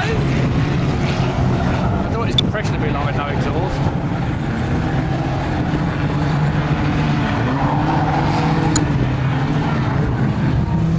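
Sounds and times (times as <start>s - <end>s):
racing car engines droning: 0.0s - 10.9s.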